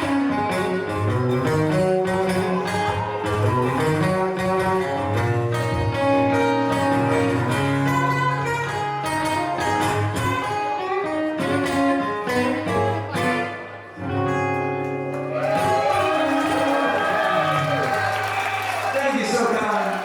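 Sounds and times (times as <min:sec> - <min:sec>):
live band playing guitar-led music: 0:00.0 - 0:19.0.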